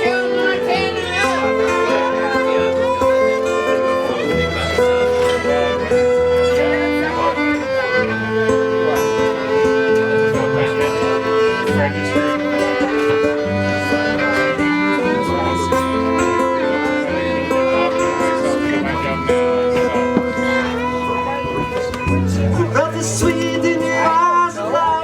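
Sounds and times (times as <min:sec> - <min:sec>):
fiddle melody: 0:00.0 - 0:25.0
live band playing: 0:00.0 - 0:25.0.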